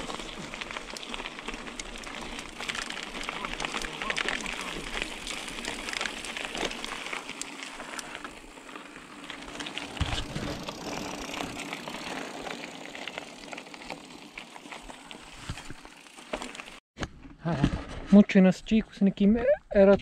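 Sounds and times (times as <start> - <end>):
tyres crunching on gravel: 0.0 - 16.8
bike rattling: 0.0 - 17.3.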